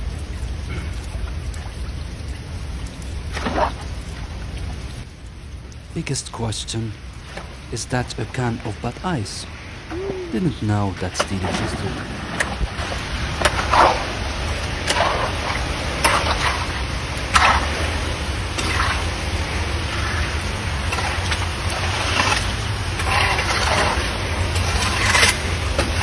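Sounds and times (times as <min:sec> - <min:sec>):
floodwater splashing: 0:00.0 - 0:05.1, 0:05.7 - 0:26.0.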